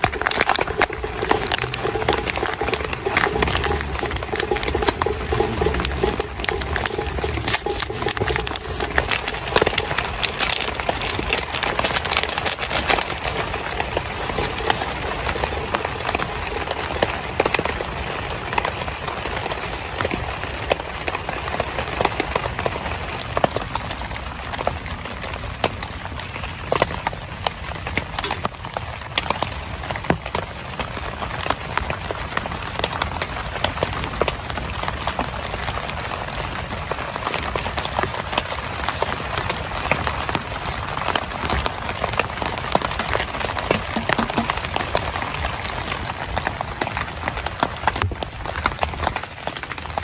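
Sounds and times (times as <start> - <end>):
raindrops pattering on a tent: 0.0 - 50.0.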